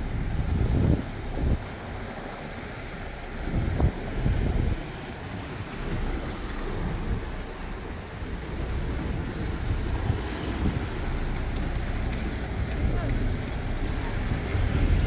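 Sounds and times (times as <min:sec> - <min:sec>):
sea breaking against rocks: 0:00.0 - 0:15.0
wind rumbling on microphone: 0:00.0 - 0:15.0.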